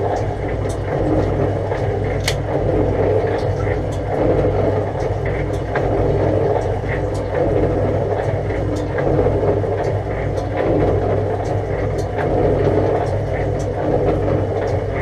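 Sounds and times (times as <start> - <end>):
pump humming: 0.0 - 15.0.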